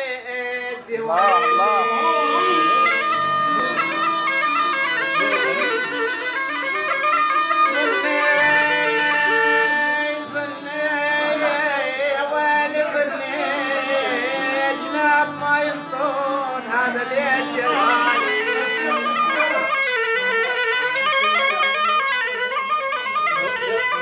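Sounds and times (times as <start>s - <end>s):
bagpipe melody over drone: 1.0s - 24.0s.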